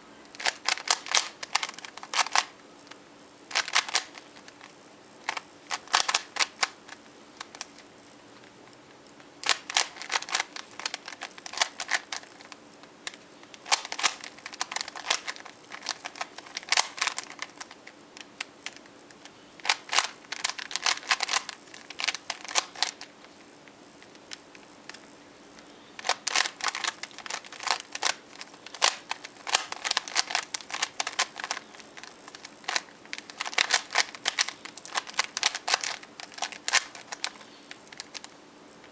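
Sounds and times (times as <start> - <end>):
puzzle cube plastic clicks: 0.3 - 7.9, 9.4 - 23.1, 24.0 - 38.3.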